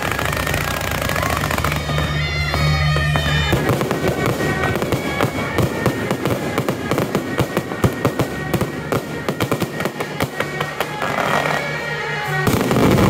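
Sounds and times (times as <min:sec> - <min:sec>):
firecrackers banging: 0:00.0 - 0:13.0
music: 0:00.0 - 0:13.0.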